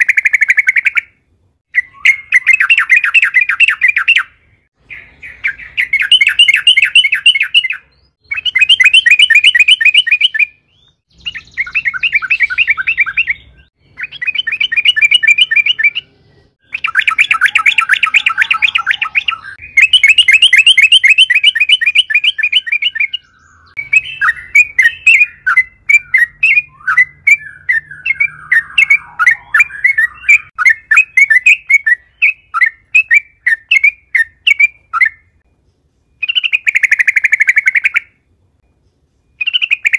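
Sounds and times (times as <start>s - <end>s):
bulbul singing trilled phrases: 0.0s - 35.4s, 36.2s - 38.2s, 39.3s - 39.9s.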